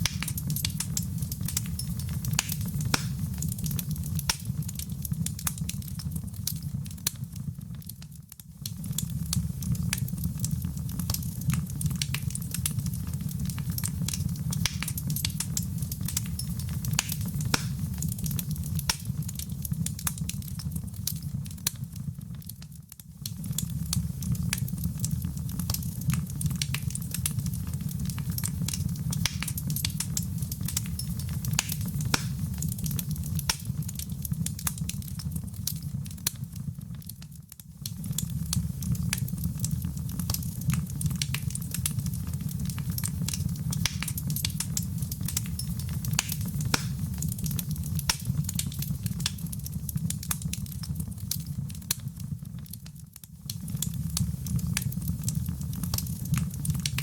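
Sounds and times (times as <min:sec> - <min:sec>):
low rumble of flames: 0:00.0 - 0:57.0
sharp pops and snaps: 0:00.0 - 0:57.0
wood fire crackling: 0:00.0 - 0:57.0.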